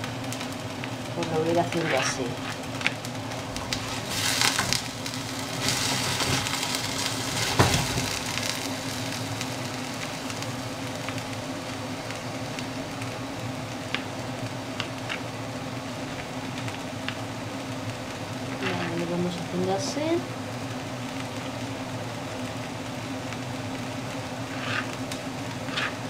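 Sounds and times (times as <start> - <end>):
onion sizzling in a pan: 0.0 - 26.0.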